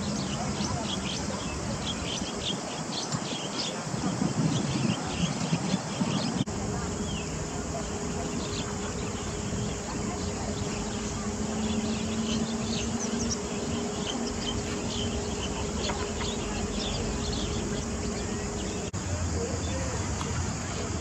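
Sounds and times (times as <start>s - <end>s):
constant low hum: 0.0s - 21.0s.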